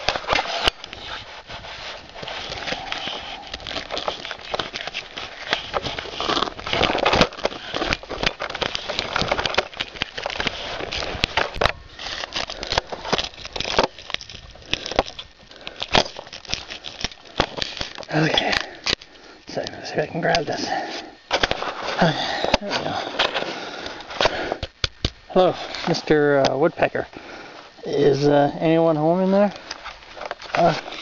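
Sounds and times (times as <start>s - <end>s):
rustling and scraping against bark: 0.0s - 31.0s.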